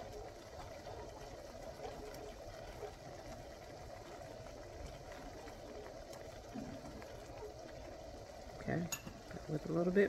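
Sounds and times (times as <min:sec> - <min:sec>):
gravy bubbling in pot: 0:00.0 - 0:10.0.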